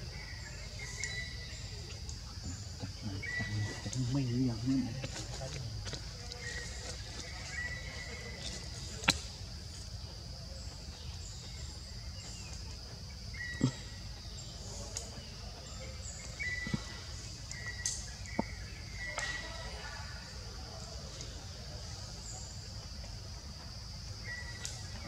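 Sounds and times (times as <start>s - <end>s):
insect drone: 0.0s - 25.0s.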